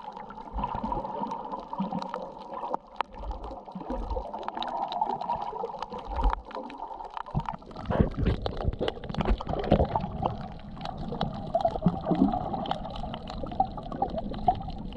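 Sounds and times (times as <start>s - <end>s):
sharp clicks and crackles: 0.0s - 14.9s
underwater gurgling and sloshing: 0.0s - 14.9s.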